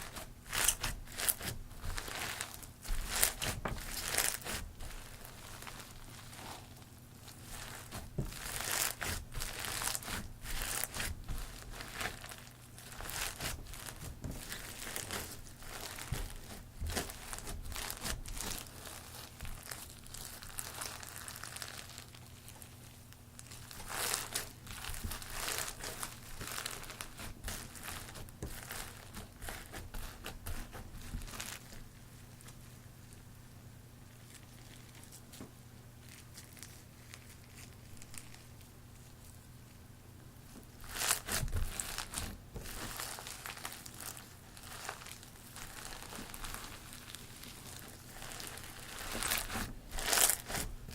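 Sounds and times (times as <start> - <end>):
crunchy slime crackling and popping: 0.0 - 31.8, 36.0 - 38.7, 40.5 - 50.9.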